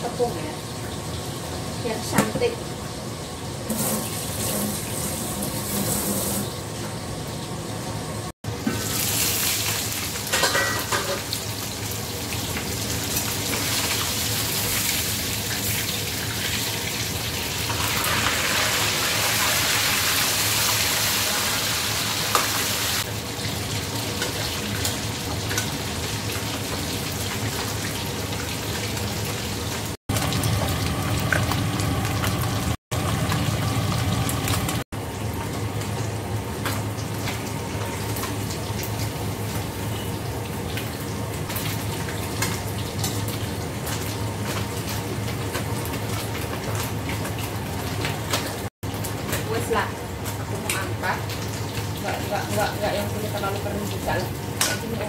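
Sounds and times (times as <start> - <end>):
fish sizzling in hot oil: 8.5 - 55.0.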